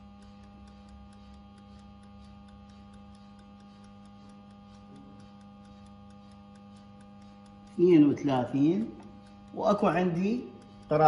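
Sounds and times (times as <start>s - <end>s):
faint electrical hum: 0.0s - 11.0s
faint even ticking: 0.0s - 11.0s.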